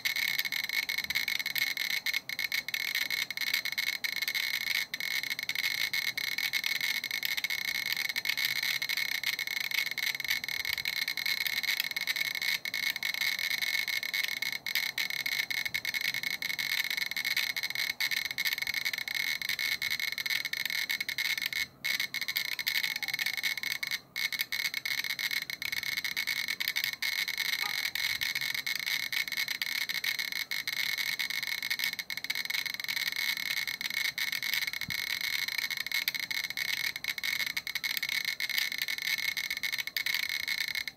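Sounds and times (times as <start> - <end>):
geiger counter rapid beeping: 0.0 - 40.9.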